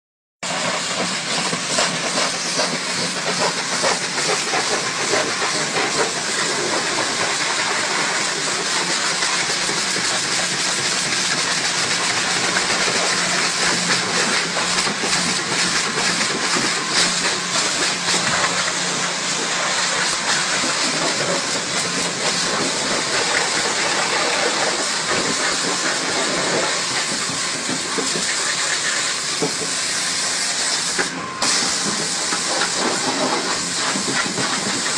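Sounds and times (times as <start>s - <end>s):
pressure water jet hissing: 0.4s - 34.9s.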